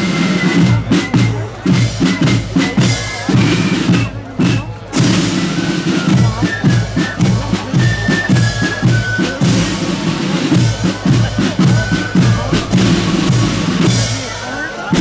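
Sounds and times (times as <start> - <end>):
marching band drums: 0.0 - 15.0.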